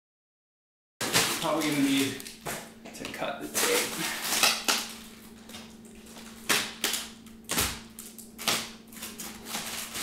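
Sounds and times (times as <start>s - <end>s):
plastic wrapping crackling: 1.0s - 10.0s.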